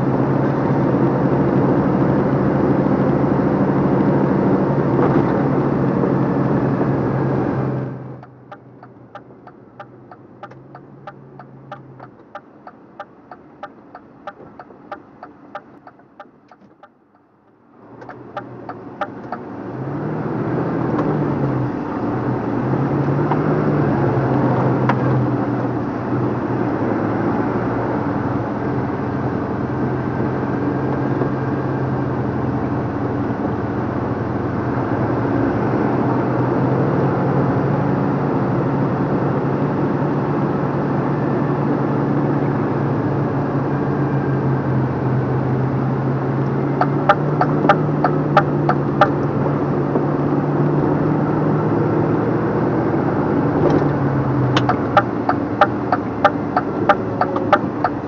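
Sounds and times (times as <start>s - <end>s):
lorry diesel engine running: 0.0s - 37.9s, 38.6s - 58.0s.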